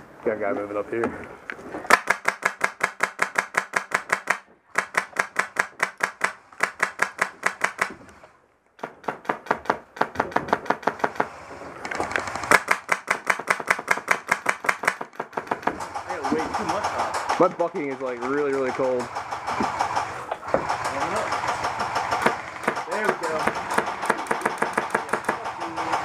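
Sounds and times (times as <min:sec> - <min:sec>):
airsoft rifle firing bursts: 0:01.9 - 0:08.0, 0:08.8 - 0:11.4, 0:12.2 - 0:26.0.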